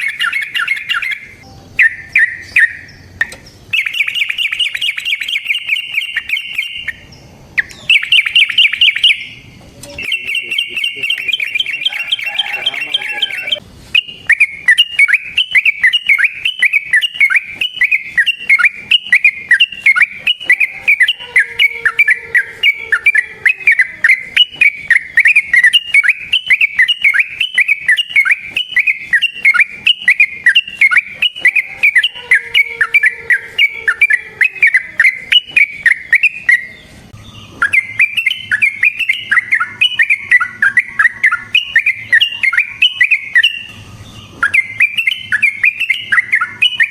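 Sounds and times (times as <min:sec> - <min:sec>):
bulbul singing rolling notes: 0:00.0 - 0:46.9.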